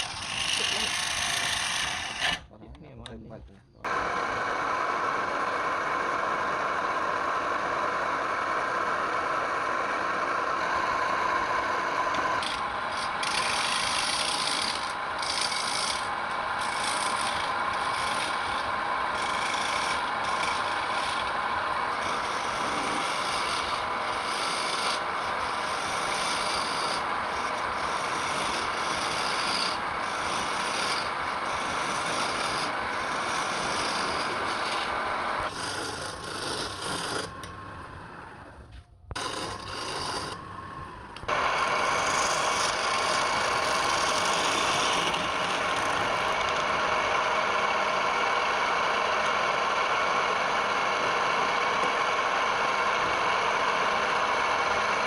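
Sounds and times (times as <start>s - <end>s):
tool scraping spinning wood: 0.0s - 55.0s.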